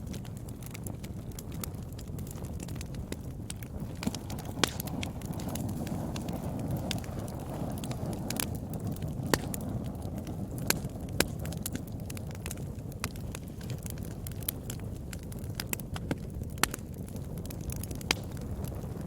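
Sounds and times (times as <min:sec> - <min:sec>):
fire crackling in fireplace: 0:00.0 - 0:19.0
loud sharp pops of fire: 0:00.0 - 0:19.0.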